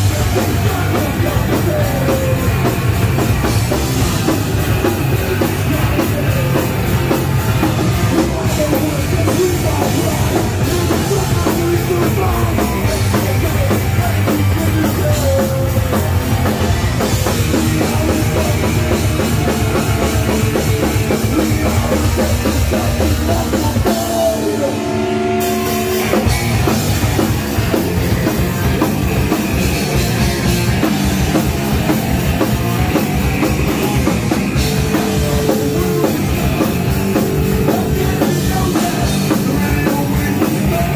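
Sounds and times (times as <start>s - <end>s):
lead vocal: 0.0s - 26.8s, 32.6s - 40.9s
bass guitar: 0.0s - 40.9s
drum kit: 0.0s - 40.9s
electric guitars: 0.0s - 40.9s.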